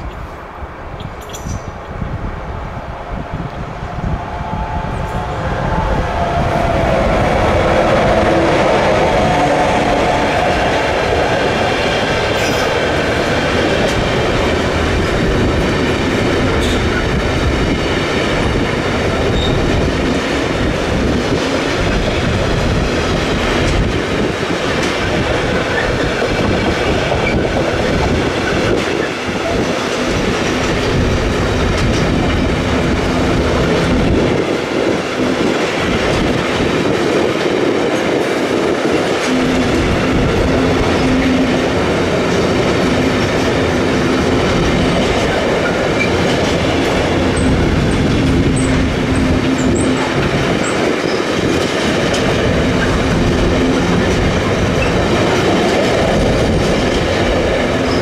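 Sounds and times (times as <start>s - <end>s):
freight train wheels clattering: 6.3s - 58.0s.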